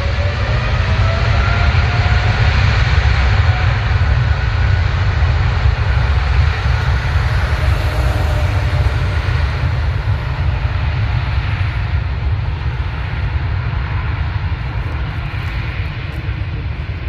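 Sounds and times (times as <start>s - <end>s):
faint engine whine: 0.0s - 17.0s
jet engine rumble: 0.0s - 17.0s.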